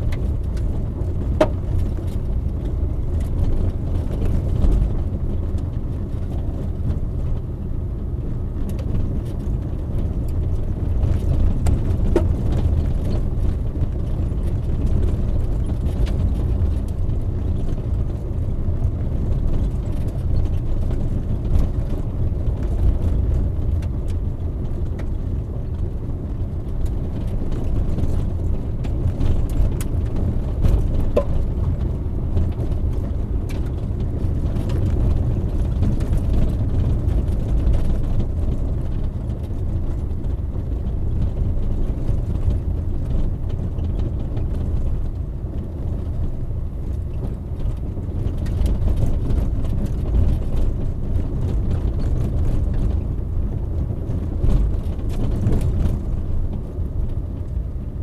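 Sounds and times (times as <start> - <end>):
car engine running: 0.0 - 58.0
tyres rumbling on gravel: 0.0 - 58.0.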